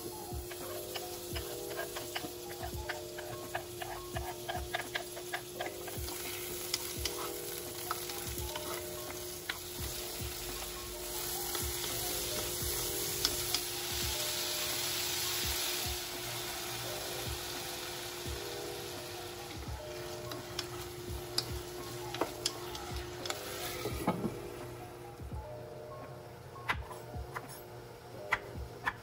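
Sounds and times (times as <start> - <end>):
food sizzling in a wok: 0.0 - 24.7.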